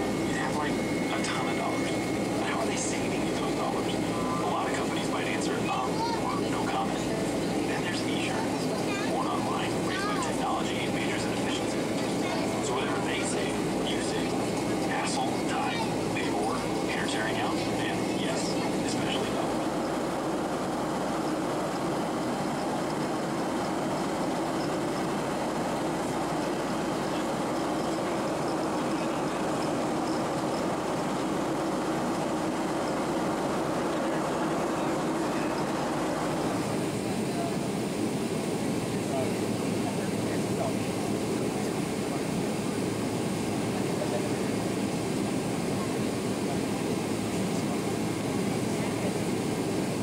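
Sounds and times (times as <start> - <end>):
jet engine drone: 0.0 - 50.0.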